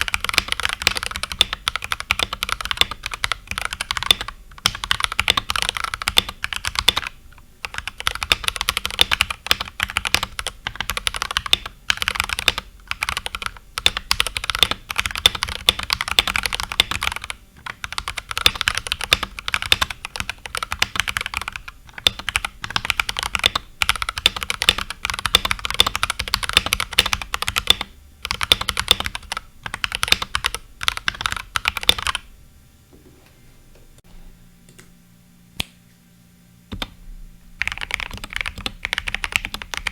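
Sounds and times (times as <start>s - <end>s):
mechanical keyboard typing: 0.0s - 32.3s, 37.6s - 39.9s.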